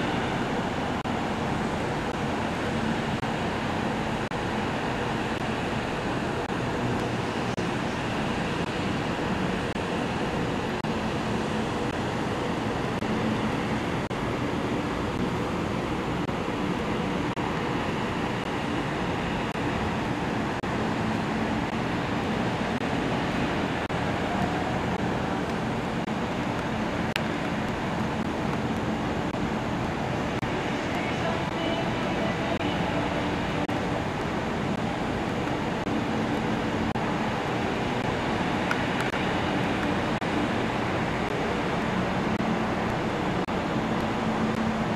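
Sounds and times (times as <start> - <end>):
city traffic hum: 0.0 - 44.9.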